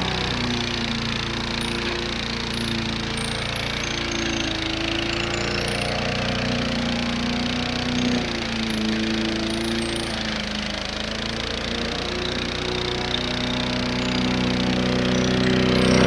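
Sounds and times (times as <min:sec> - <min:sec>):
lawnmower engine at full throttle: 0:00.0 - 0:16.0.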